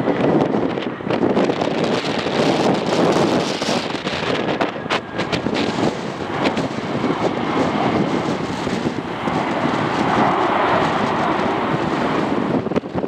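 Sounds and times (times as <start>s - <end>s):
airliner engines passing: 0.0s - 13.0s
wind buffeting microphone: 0.0s - 13.0s.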